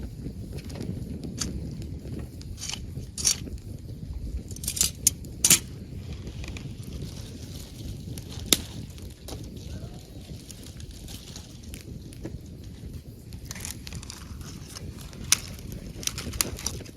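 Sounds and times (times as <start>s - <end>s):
campfire crackling: 0.0s - 16.9s
low rumble: 0.0s - 16.9s
sharp pops from fire: 0.0s - 16.9s.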